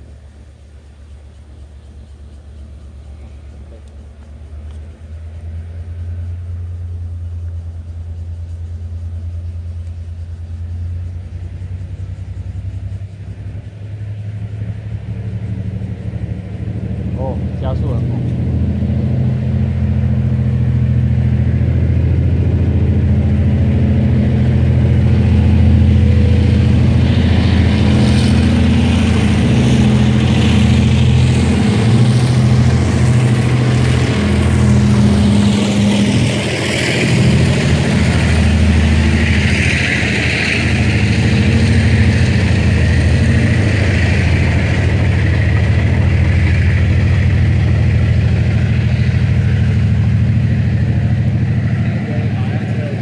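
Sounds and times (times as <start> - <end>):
diesel engine drone: 0.0 - 53.0
wheel and rail noise: 0.0 - 53.0.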